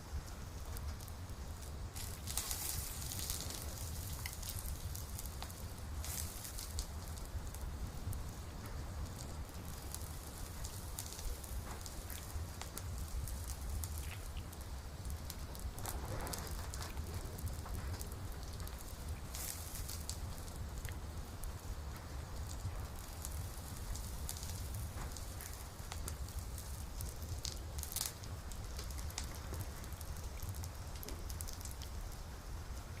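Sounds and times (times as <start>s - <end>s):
low fire rumble: 0.0s - 33.0s
wood crackling and popping: 0.0s - 33.0s.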